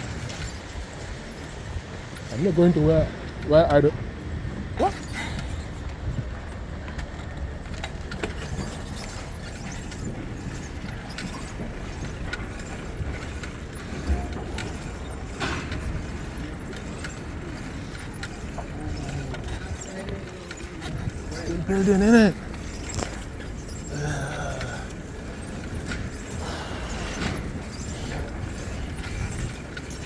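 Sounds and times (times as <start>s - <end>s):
traffic rumble: 0.0s - 30.0s
small clicks and rattles: 5.4s - 30.0s.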